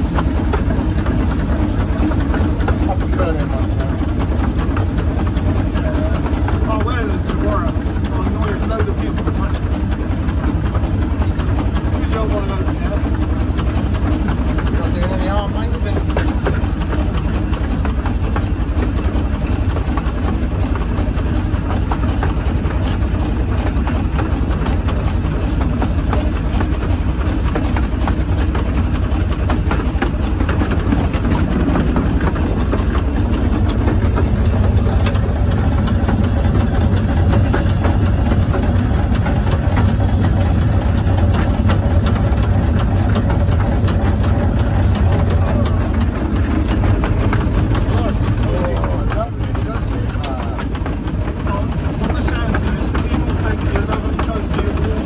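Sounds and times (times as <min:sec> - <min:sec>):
steam locomotive rumbling on rails: 0:00.0 - 0:55.0.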